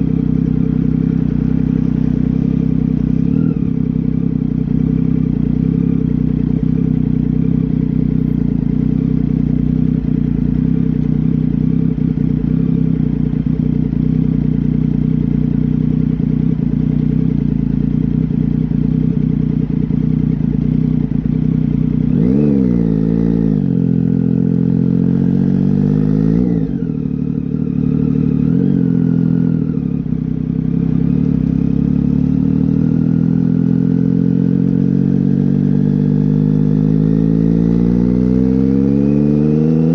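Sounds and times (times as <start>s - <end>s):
motorcycle engine idling: 0.0s - 38.7s
motorcycle engine revving: 0.0s - 39.9s.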